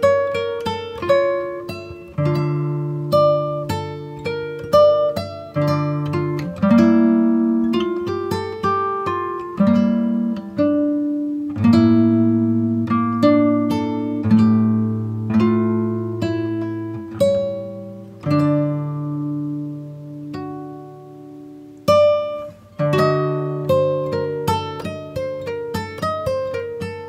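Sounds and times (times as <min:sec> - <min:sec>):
acoustic guitar melody: 0:00.0 - 0:27.0.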